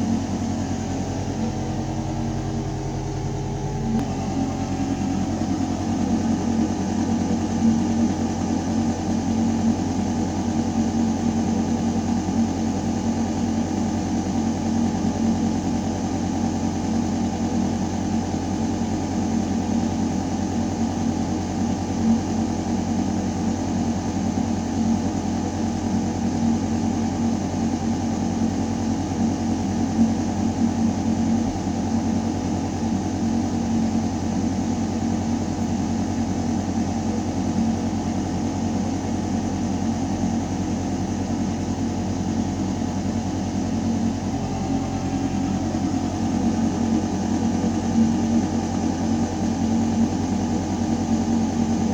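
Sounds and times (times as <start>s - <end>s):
ventilation hum in ductwork: 0.0s - 51.9s.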